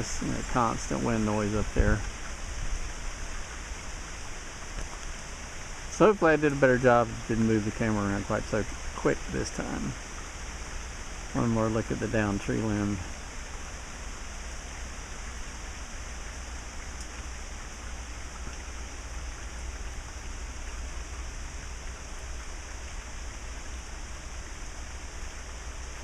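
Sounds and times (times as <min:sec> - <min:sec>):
steady rain hissing: 0:00.0 - 0:26.0.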